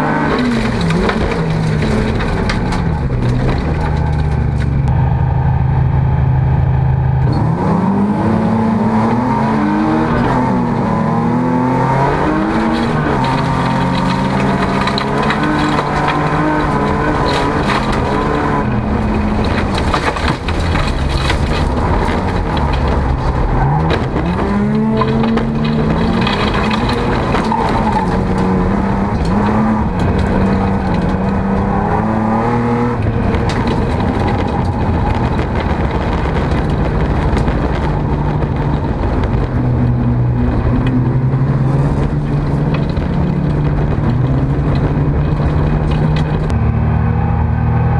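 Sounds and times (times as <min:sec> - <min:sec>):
car rattling on gravel: 0:00.0 - 0:05.0, 0:07.2 - 0:47.4
car engine revving: 0:00.0 - 0:47.9.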